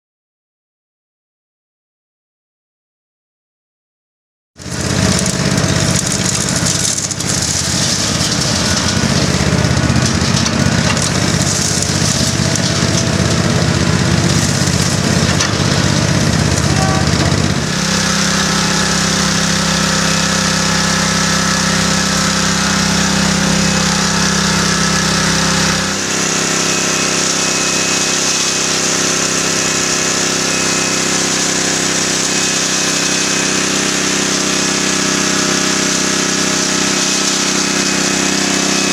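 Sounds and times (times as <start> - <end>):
concrete mixer droning: 4.6 - 38.9.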